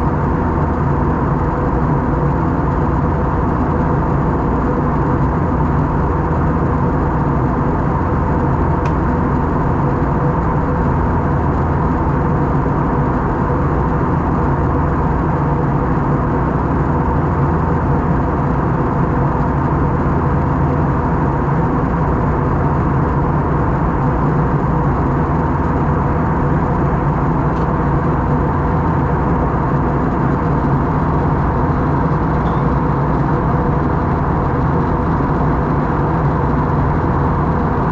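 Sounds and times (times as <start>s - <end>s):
airplane cabin noise: 0.0s - 37.9s
engine hum tones: 0.0s - 37.9s.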